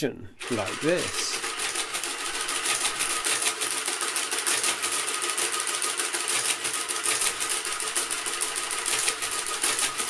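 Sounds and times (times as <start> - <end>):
mechanical calculator clattering: 0.4 - 10.0.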